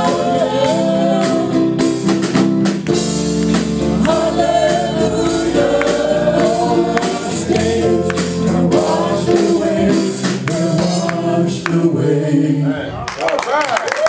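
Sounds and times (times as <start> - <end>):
choir singing gospel song: 0.0 - 2.3, 2.9 - 13.0.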